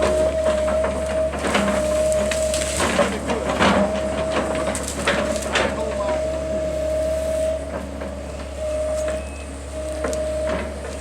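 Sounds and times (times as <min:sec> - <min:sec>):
heavy machine engine drone and whine: 0:00.0 - 0:11.0.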